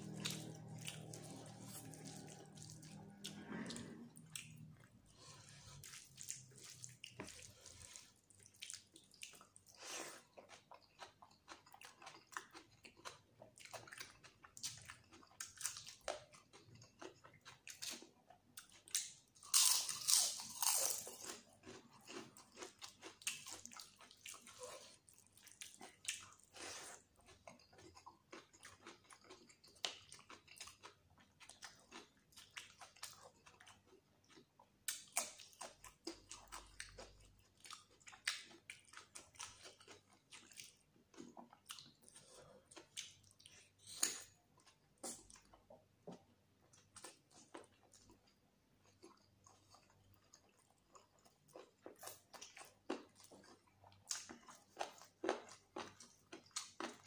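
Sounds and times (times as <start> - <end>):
man chewing and biting: 4.2 - 57.0.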